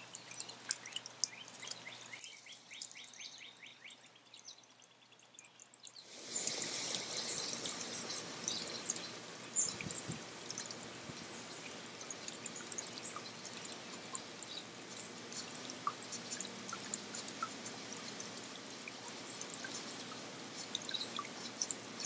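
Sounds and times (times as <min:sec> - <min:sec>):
small water drips: 0:00.0 - 0:22.0
water trickling over stones: 0:00.0 - 0:22.0.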